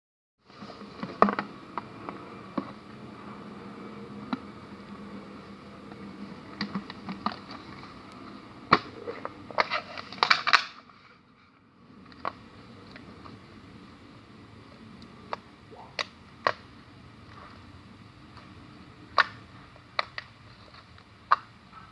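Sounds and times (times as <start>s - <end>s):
steady background hiss: 0.4s - 21.9s.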